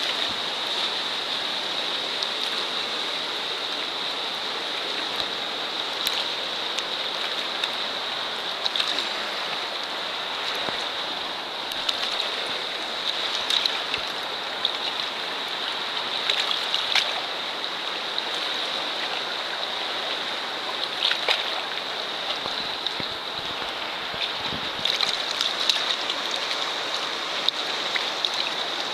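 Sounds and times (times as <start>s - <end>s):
river water rushing: 0.0s - 28.9s
water splashes and drips: 0.0s - 28.9s.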